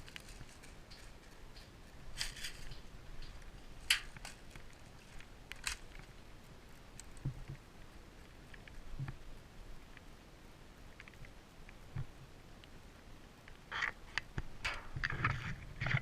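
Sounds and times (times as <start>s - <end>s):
faint rustles and clicks: 0.0s - 10.2s, 13.4s - 16.0s.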